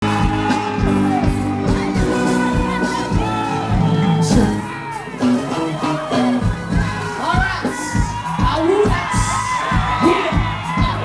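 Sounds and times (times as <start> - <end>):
kick-drum beat: 0.0 - 5.1, 6.4 - 11.0
crowd whooping and shouting: 0.0 - 11.0
held keyboard notes: 0.0 - 11.0
person singing: 0.0 - 11.0.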